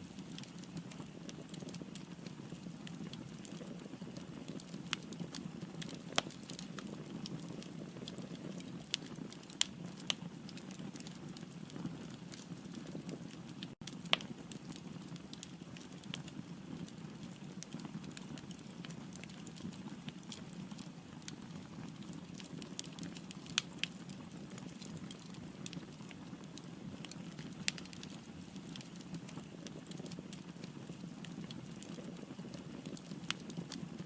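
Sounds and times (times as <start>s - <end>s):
crackles and pops of fire: 0.0s - 34.0s
fire burning in fireplace: 0.0s - 34.0s.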